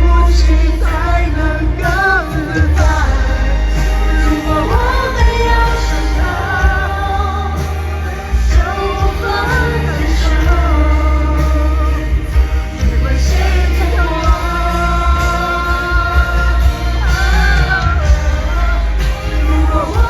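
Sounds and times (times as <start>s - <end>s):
heavy bass backing: 0.0s - 20.0s
woman singing live pop: 0.0s - 20.0s.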